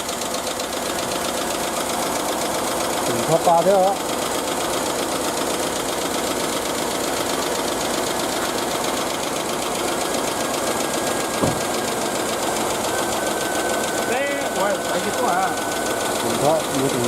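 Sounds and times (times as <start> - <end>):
engine knock: 0.0 - 17.0
engine running with fast ticking: 0.0 - 17.0.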